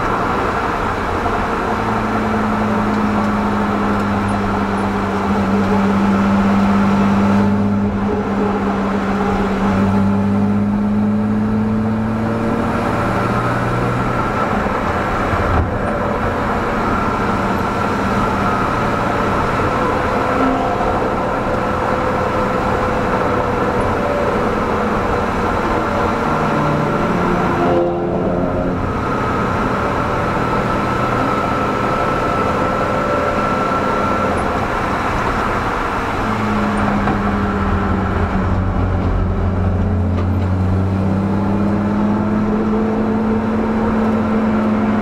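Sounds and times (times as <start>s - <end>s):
car engine at speed: 0.0s - 45.0s
road and tyre noise: 0.0s - 45.0s.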